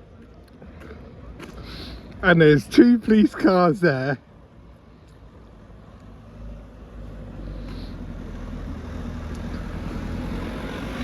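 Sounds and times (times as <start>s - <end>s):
road vehicle rumbling: 0.0s - 11.0s.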